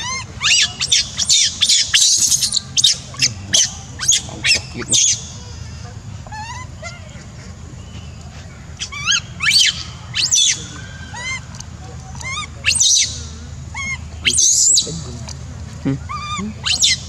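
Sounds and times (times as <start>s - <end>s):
baby monkey crying: 0.0s - 7.4s, 8.8s - 15.0s, 16.0s - 17.0s.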